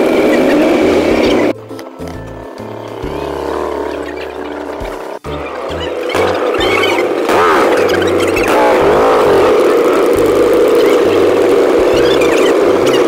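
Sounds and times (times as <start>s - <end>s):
background music with bass: 0.0s - 13.0s
motorcycle engines revving: 0.0s - 13.0s.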